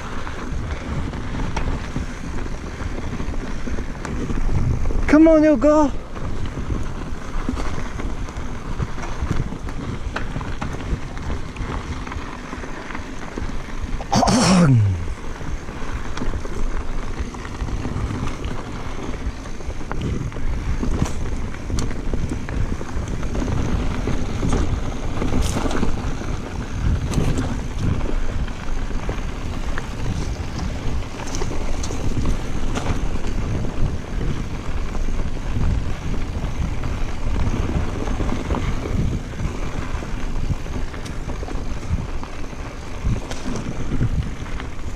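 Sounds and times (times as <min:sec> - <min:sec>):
bike tyre noise: 0:00.0 - 0:44.9
wind buffeting microphone: 0:00.0 - 0:44.9.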